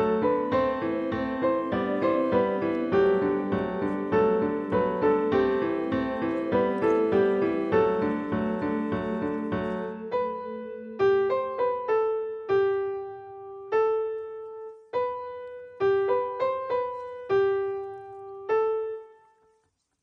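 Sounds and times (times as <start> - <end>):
solo piano melody: 0.0 - 19.9.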